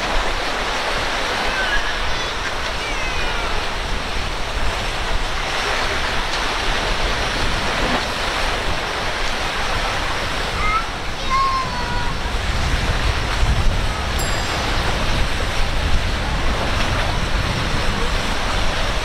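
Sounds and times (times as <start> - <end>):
boat wake washing: 0.0 - 19.0
churning water: 0.0 - 19.0
wind: 0.0 - 19.0.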